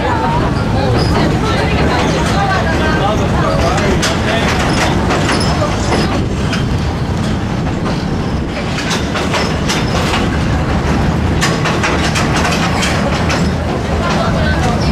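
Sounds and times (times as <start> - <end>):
train rumbling over steel bridge: 0.0 - 14.9
wheels clacking on rails: 0.0 - 14.9.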